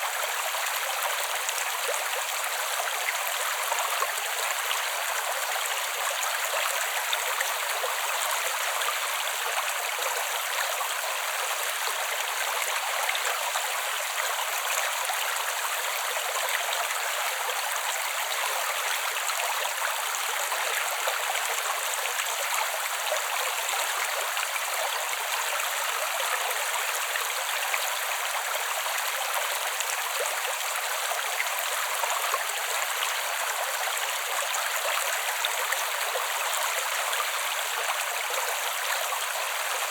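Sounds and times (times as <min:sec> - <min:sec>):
creek water flowing: 0:00.0 - 0:39.9.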